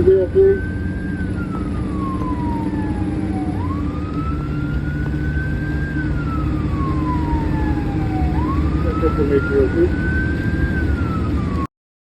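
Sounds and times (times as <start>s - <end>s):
fire engine siren wailing: 0.0s - 11.7s
road noise: 0.0s - 11.7s
truck engine rumble: 0.0s - 11.7s.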